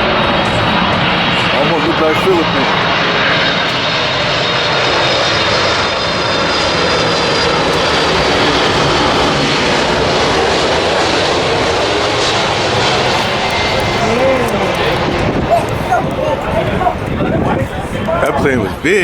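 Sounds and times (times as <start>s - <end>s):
airliner flying low overhead: 0.0s - 19.0s.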